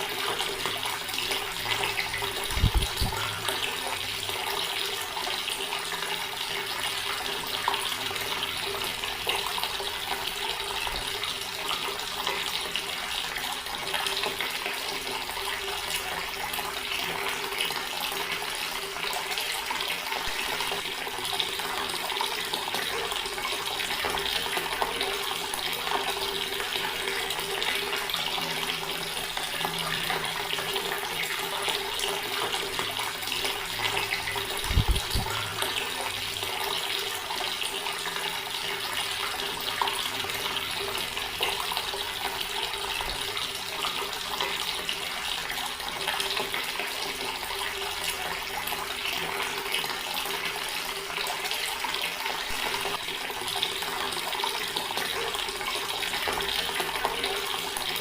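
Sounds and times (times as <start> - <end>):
tap water splashing into basin: 0.0 - 58.0.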